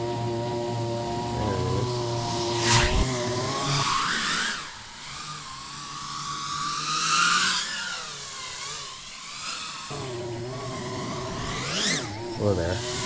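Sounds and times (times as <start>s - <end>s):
low motor hum: 0.0s - 13.0s
quadcopter propellers whining: 0.0s - 13.0s.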